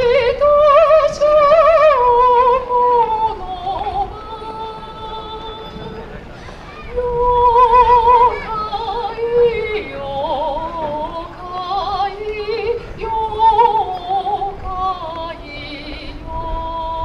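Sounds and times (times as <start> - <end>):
woman singing with vibrato: 0.0 - 6.2, 6.8 - 17.0.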